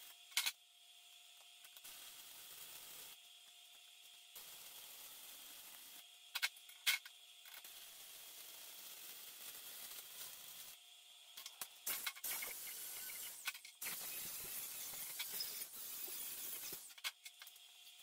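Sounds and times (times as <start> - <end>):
arc welding hiss: 1.3 - 18.0.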